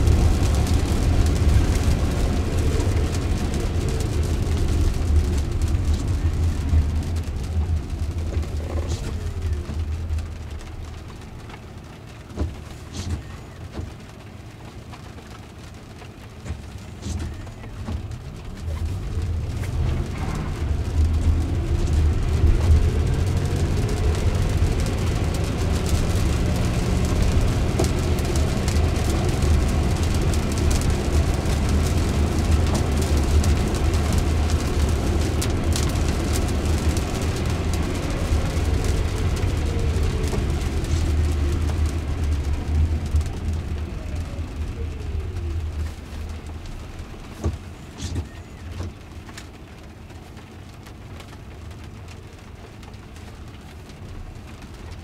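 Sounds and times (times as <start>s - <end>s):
tyres hissing on wet road: 0.0s - 55.0s.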